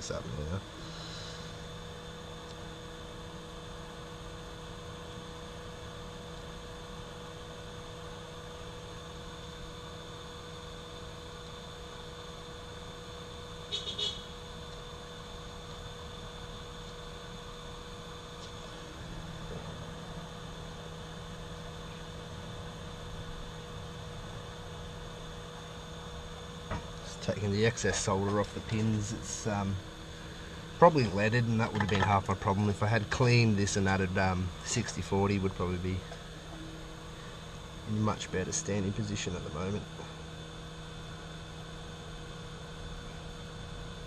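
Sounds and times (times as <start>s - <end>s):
electrical hum with high whine: 0.0s - 44.0s.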